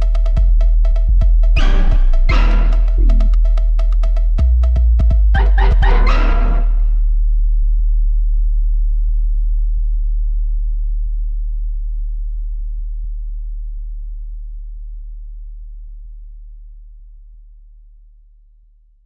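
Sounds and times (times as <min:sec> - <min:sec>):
deep sub-bass sine tone: 0:00.0 - 0:19.0.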